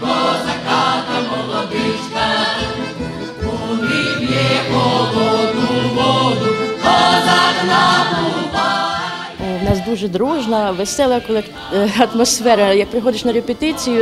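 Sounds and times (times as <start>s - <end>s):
accordion: 0.0s - 14.0s
choir singing in harmony: 0.0s - 14.0s.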